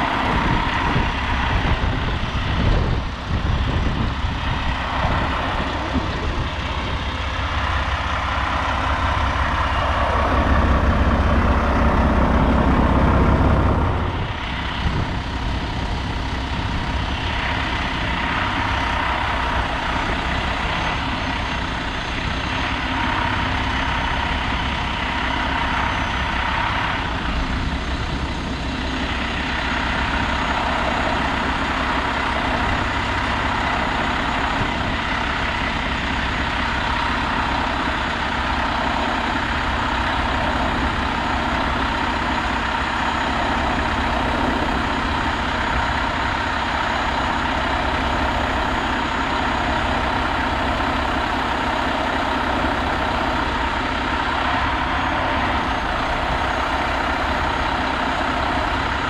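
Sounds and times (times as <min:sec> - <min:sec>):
diesel engine idling: 0:00.0 - 0:59.0
steady high whine: 0:00.0 - 0:59.0.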